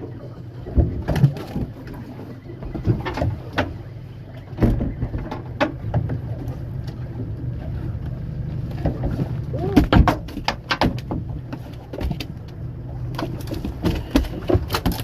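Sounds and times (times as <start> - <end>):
steady low hum: 0.0 - 15.0
gear knocking and clunking: 0.6 - 15.0.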